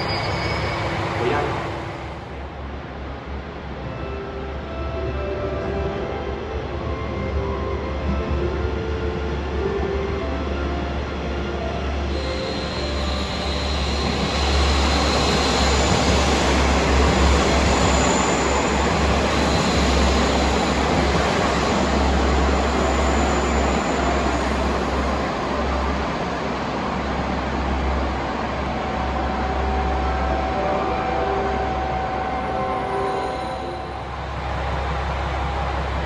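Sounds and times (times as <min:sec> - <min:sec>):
railcar engine rumble: 0:00.0 - 0:36.0.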